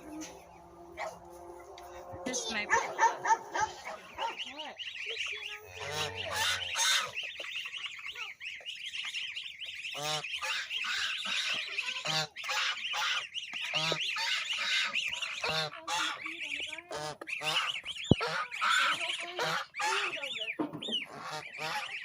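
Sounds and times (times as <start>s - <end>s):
honk-like bird calls: 0.0s - 7.3s, 9.8s - 22.0s
birds chirping and peeping: 0.0s - 22.0s.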